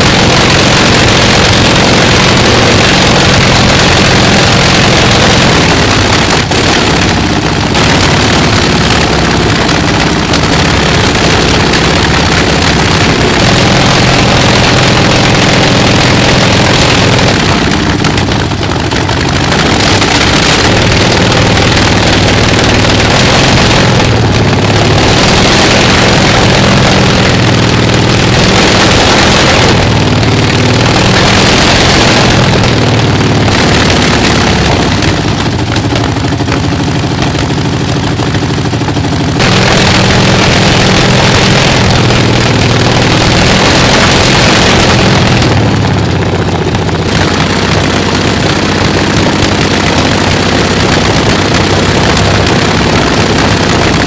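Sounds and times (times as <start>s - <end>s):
radial aircraft engine running: 0.0s - 54.0s.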